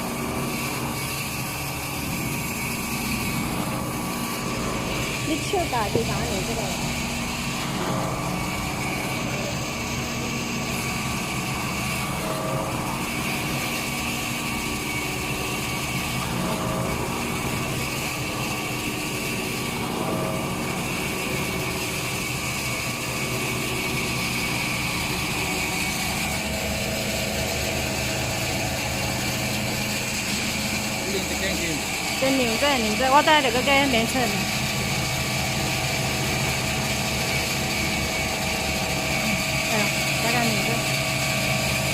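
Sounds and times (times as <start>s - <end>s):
machinery humming: 0.0s - 41.9s.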